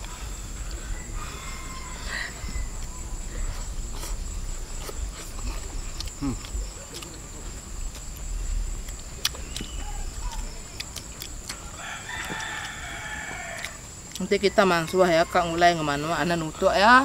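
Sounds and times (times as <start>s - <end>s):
chewing: 0.0s - 15.6s.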